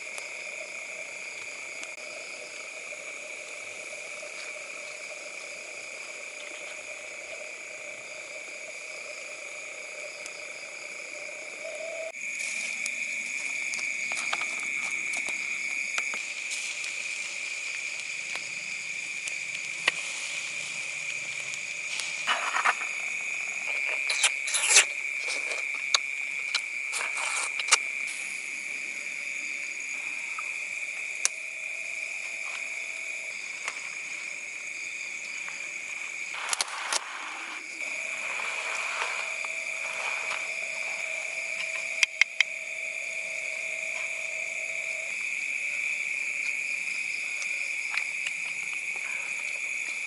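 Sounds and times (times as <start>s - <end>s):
insects and frogs calling: 0.0s - 50.0s.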